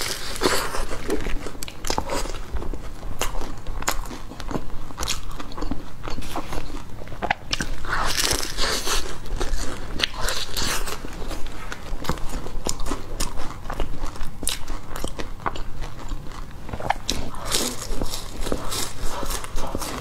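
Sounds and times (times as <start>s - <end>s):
crunchy pastry chewing: 0.0s - 20.0s.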